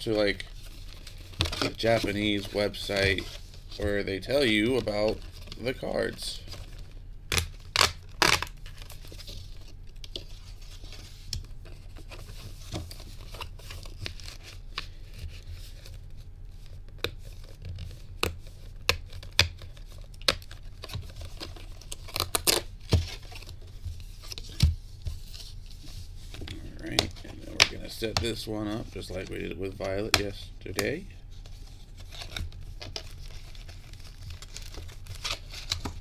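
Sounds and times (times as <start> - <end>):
plastic wrap tearing and crinkling: 0.0 - 36.0.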